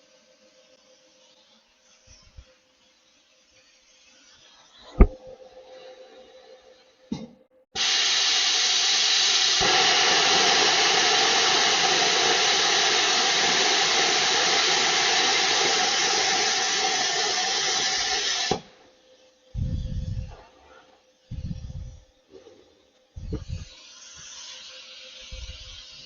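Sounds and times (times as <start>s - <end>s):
plasma cutter hissing: 0.0s - 5.1s, 7.8s - 26.0s.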